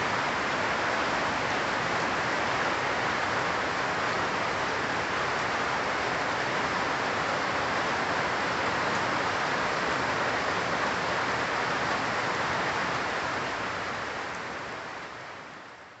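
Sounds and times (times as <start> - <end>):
rain falling on leafy trees: 0.0 - 16.0.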